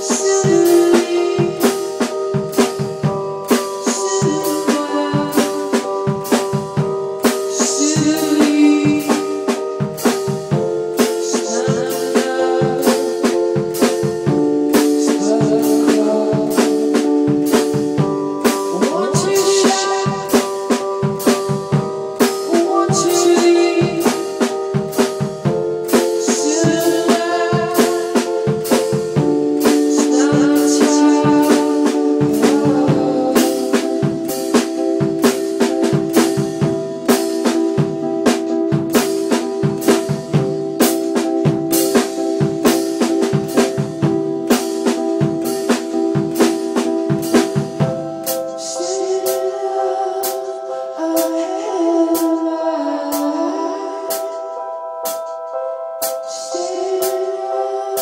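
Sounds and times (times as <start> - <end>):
drum and cymbal hits: 0.0 - 49.6
electronic keyboard: 0.0 - 58.0.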